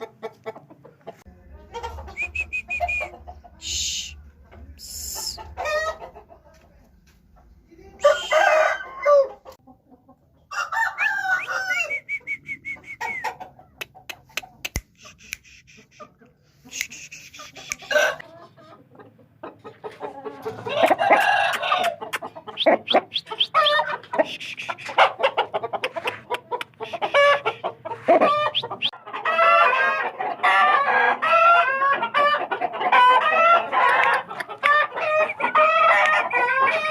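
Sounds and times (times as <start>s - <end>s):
chickens calling: 0.0s - 6.6s, 7.3s - 36.9s.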